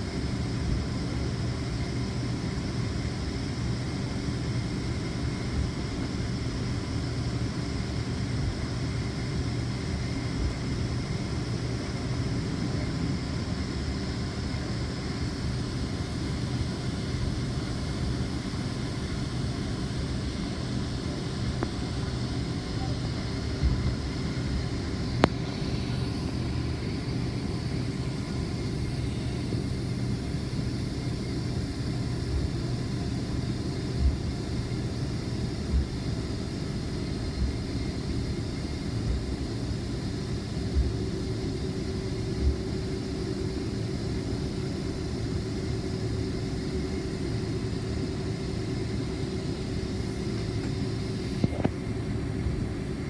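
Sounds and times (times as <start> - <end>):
jet engines idling hum: 0.0 - 53.0.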